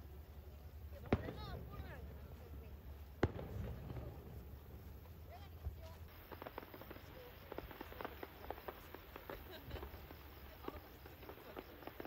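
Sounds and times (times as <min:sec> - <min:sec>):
distant fireworks crackling: 0:00.0 - 0:12.0.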